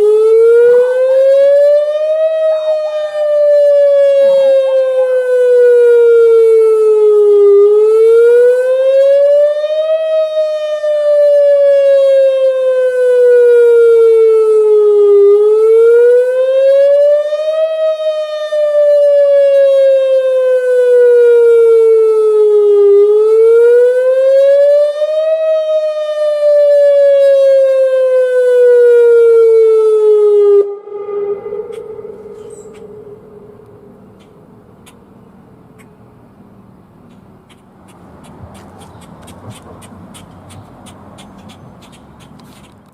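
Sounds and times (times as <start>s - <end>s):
warning siren wailing: 0.0s - 36.2s.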